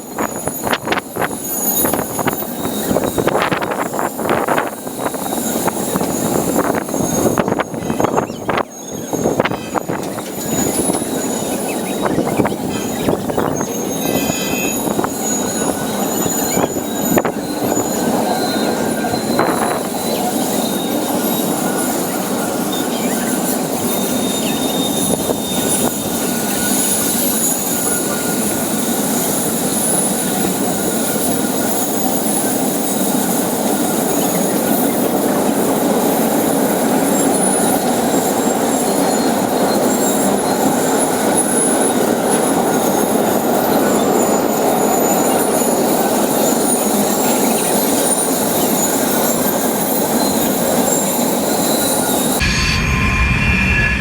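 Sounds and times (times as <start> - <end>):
freight train rolling past: 0.0 - 54.0
steel wheels squealing: 0.0 - 54.0
train wheel clacks: 0.0 - 54.0.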